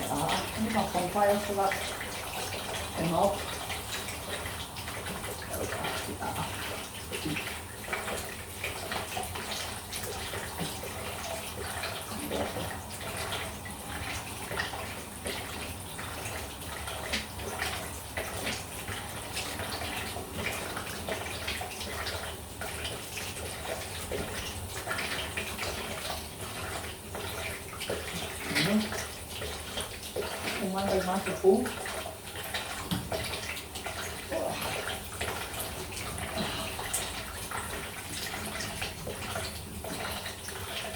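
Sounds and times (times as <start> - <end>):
water running from pipe: 0.0 - 40.9.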